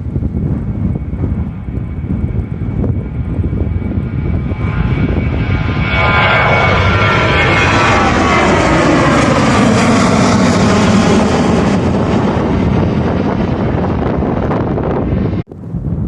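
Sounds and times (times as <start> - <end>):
airliner engines passing: 0.0 - 16.0.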